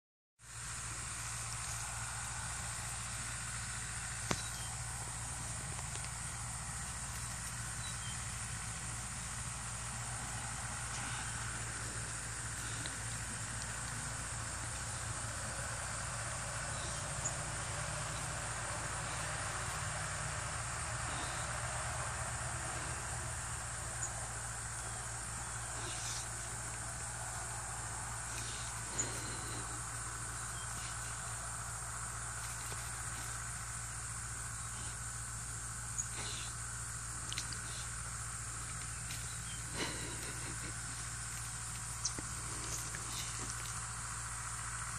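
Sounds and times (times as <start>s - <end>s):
even hiss: 0.4s - 44.9s
insects droning: 0.4s - 44.9s
low hum: 0.4s - 44.9s.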